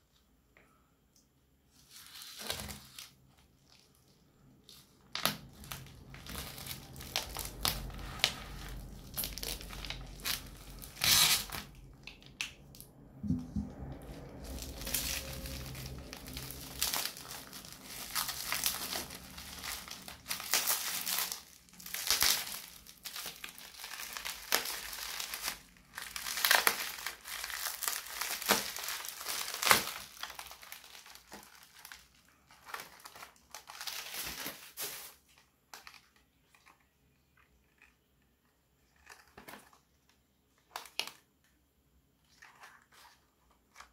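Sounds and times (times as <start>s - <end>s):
bubble wrap crinkling: 1.7s - 38.0s, 38.8s - 41.3s.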